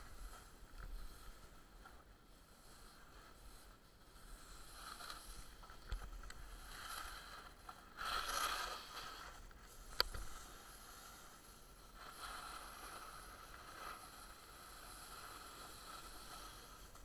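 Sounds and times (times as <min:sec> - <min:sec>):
snowboard scraping over snow: 0:00.0 - 0:17.0.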